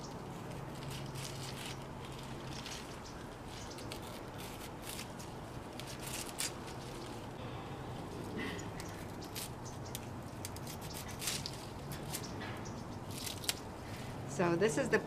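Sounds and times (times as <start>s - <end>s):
knife scraping leaf stems: 0.1s - 7.4s, 8.4s - 14.1s.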